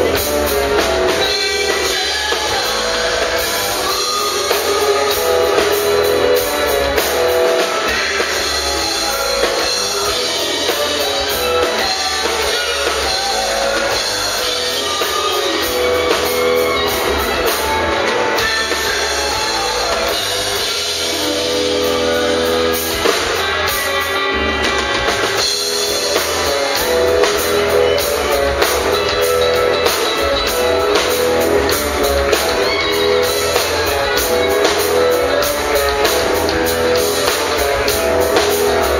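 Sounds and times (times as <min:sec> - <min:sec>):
drum kit beat: 0:00.0 - 0:38.9
electric bass: 0:00.0 - 0:38.9
electric guitar: 0:00.0 - 0:38.9.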